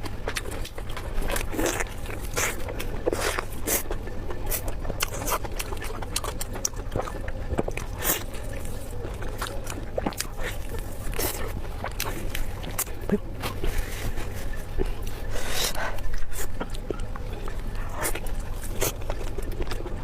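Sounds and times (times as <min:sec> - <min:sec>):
wet chewing: 0:00.0 - 0:20.0.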